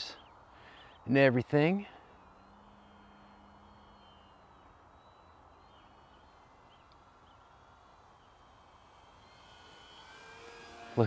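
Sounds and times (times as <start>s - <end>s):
distant model plane motor hum: 0.2s - 11.0s.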